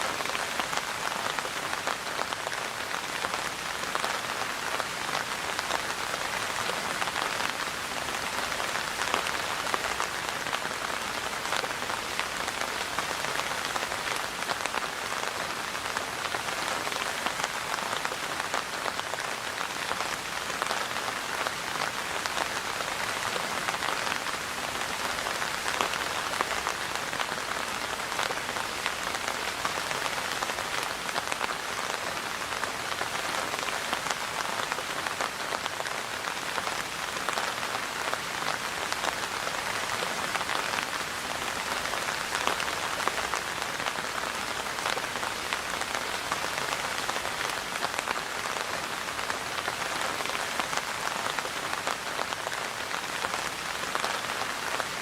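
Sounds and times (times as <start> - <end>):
rain pattering on surface: 0.0 - 55.0.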